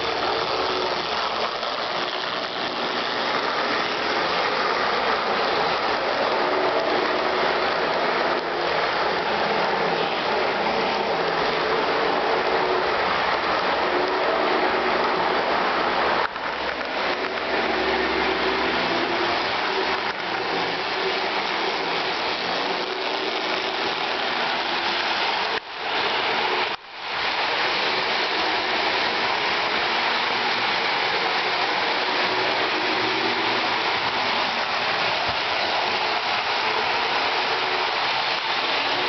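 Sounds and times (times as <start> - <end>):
model train wheels and motor rumble: 0.0 - 39.0.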